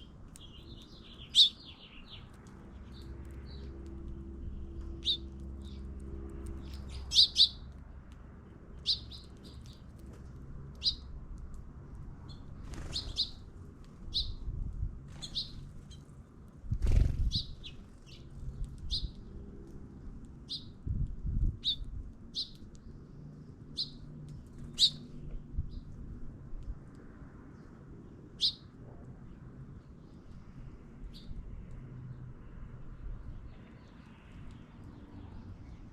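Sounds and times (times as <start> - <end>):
small songbirds chirping: 0.0 - 10.0, 10.7 - 11.2, 12.1 - 19.4, 20.3 - 26.0, 27.4 - 35.9.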